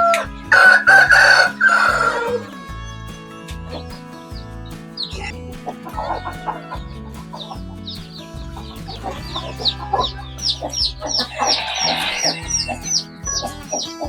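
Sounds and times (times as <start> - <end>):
chicks peeping: 0.0 - 2.9, 3.5 - 14.0
chickens clucking: 0.0 - 14.0
soft background music: 0.0 - 14.0.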